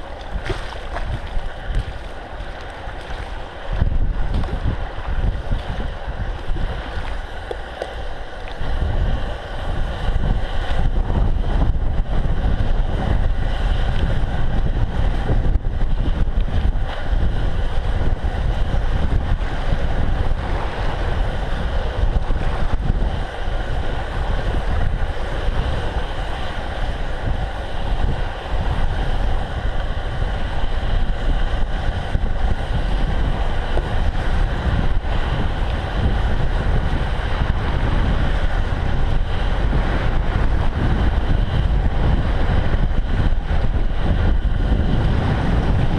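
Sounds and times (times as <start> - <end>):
bicycle riding rumble: 0.0 - 45.9
wind buffeting microphone: 0.0 - 45.9.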